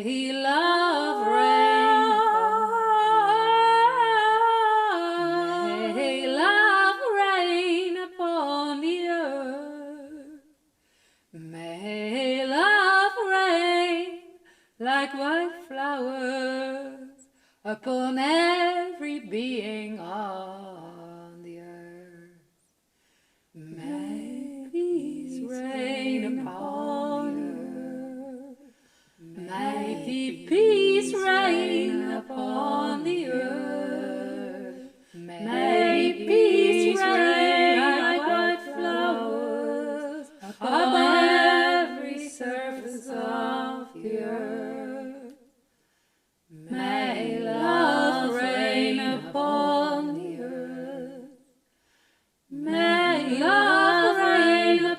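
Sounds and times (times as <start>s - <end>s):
women singing a cappella chant: 0.0s - 10.6s, 11.3s - 22.6s, 23.6s - 45.6s, 46.5s - 51.6s, 52.5s - 54.9s.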